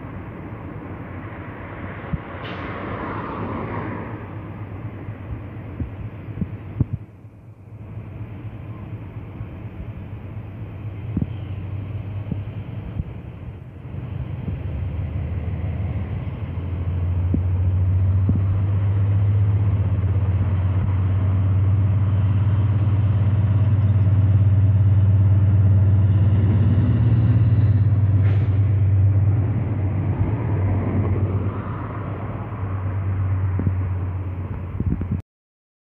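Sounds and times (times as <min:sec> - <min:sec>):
diesel locomotive passing: 0:00.0 - 0:35.2.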